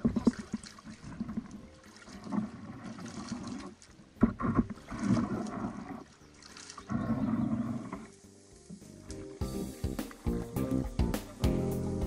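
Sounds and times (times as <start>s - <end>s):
paddle strokes splashing water: 0.0s - 10.5s.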